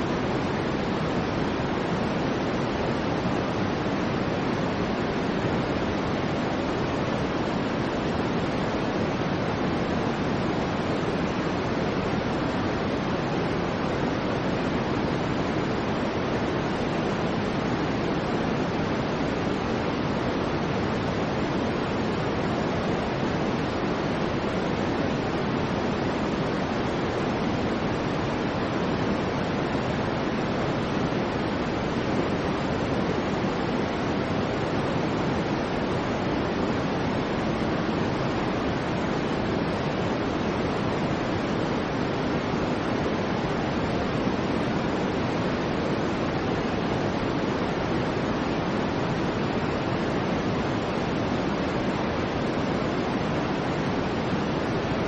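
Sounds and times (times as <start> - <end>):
soft white noise hiss: 0.0 - 55.0.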